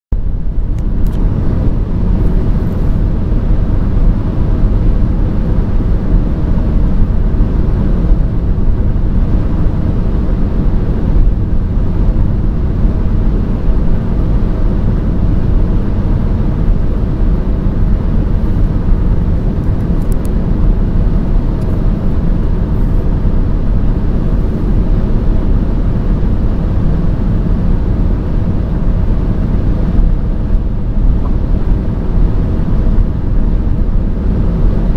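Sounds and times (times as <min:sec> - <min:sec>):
car road and engine rumble: 0:00.1 - 0:34.9.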